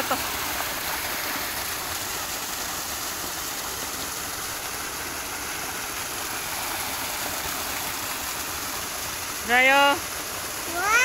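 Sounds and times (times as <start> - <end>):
water rushing over a drop: 0.0 - 11.0.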